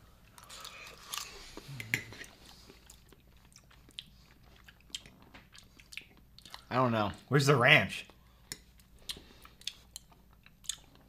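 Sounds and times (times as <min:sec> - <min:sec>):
people chewing wetly: 0:00.3 - 0:06.7, 0:08.1 - 0:11.0.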